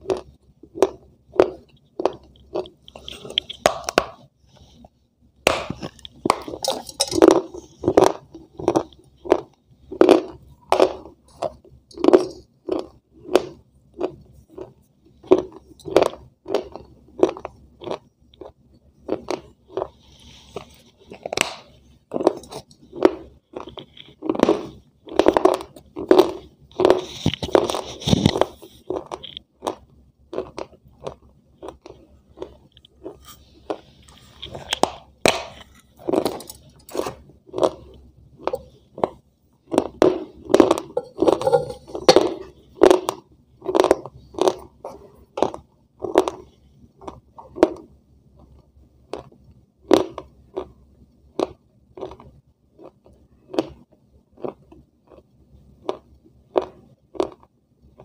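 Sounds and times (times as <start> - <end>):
crunchy food being chewed: 0.0 - 4.9, 5.5 - 58.0.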